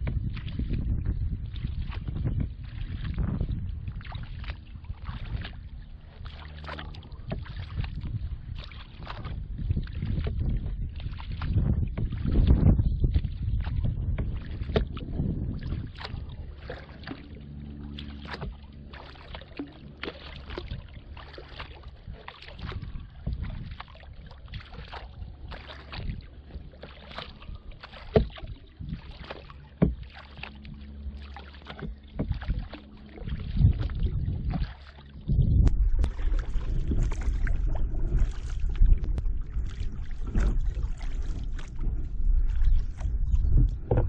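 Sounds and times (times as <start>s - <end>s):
paddle strokes splashing in water: 0.0s - 44.0s
wind rumbling on microphone: 0.0s - 44.0s.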